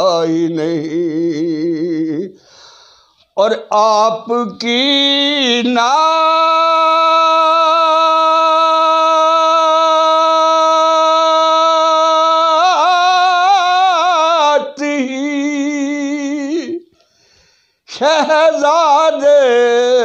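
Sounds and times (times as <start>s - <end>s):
man singing unaccompanied: 0.0s - 2.4s, 3.3s - 17.0s, 17.9s - 20.0s.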